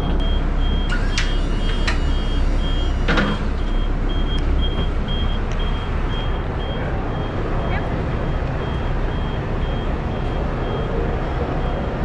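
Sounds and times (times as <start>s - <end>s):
bus engine idling: 0.0s - 12.0s
short high warning beeps: 0.2s - 11.9s.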